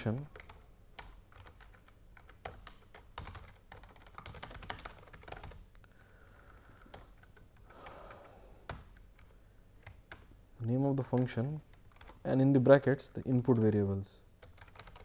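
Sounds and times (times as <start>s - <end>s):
faint keyboard typing: 0.0s - 15.0s.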